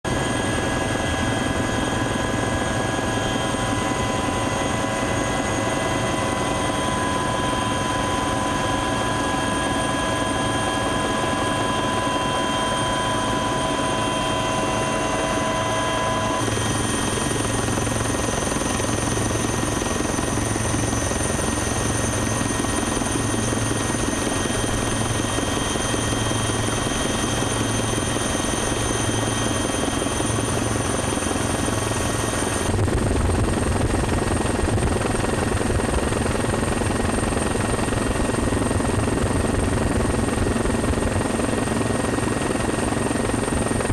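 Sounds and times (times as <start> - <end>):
helicopter engine and rotor noise: 0.0 - 43.9.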